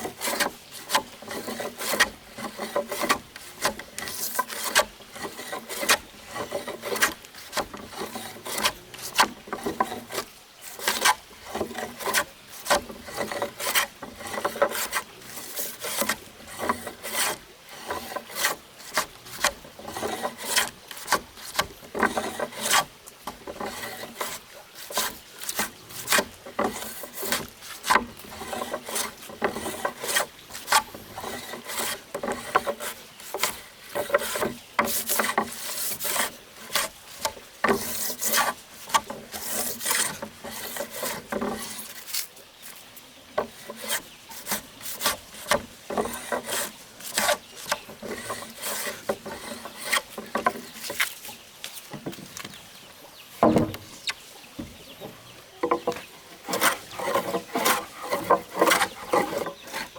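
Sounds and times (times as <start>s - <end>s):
hand tool scraping wood: 0.0s - 59.9s.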